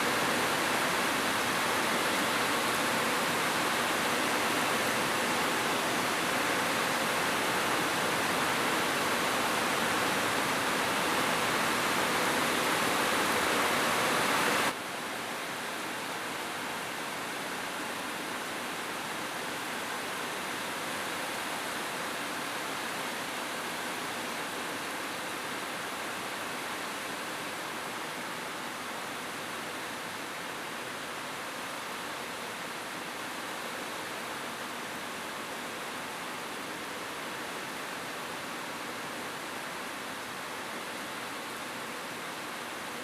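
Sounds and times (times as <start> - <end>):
heavy rain on a rooftop: 0.0 - 43.0.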